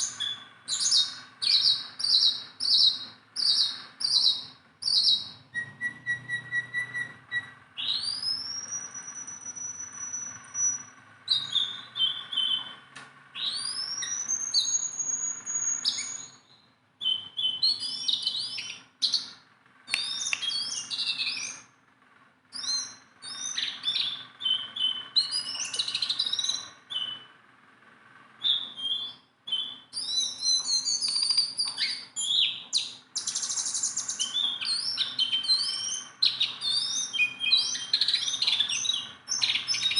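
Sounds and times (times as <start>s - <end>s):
songbird singing: 0.0s - 21.8s, 22.5s - 27.3s, 28.4s - 39.9s.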